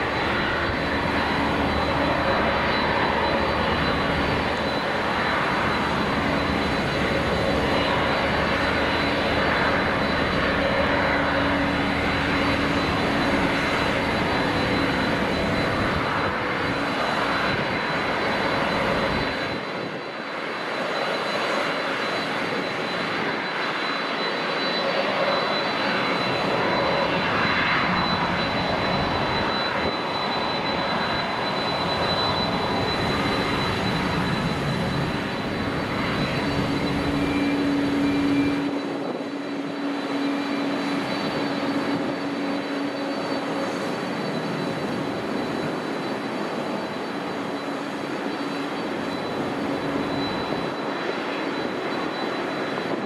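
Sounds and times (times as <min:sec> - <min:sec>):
high engine whine: 0:00.0 - 0:53.0
jet engine rush: 0:00.0 - 0:53.0.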